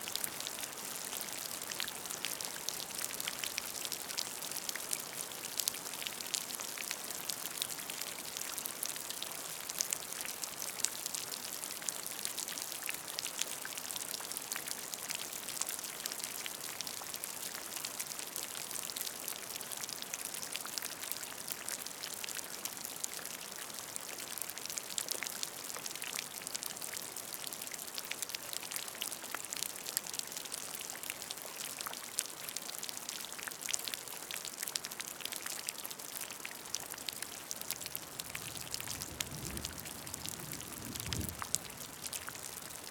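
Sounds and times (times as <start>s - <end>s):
rain drops splashing in puddle: 0.0s - 42.9s.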